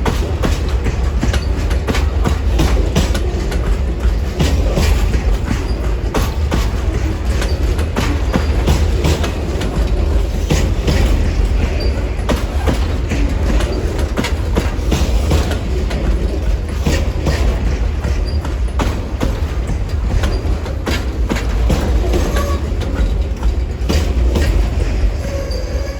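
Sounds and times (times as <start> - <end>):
train cars rumbling past: 0.0 - 25.9
wheels clicking over track: 0.0 - 25.9.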